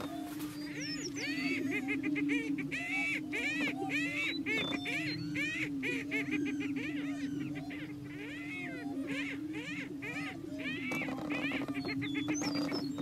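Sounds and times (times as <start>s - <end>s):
bird cackles and whoops: 0.0s - 13.0s
low booming drone of birds: 0.0s - 13.0s.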